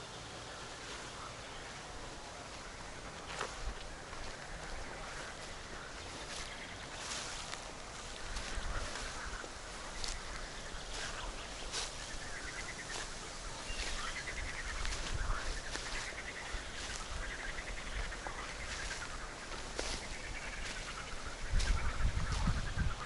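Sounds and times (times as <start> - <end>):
birds trilling: 0.0 - 23.0
footsteps on forest path: 0.0 - 23.0.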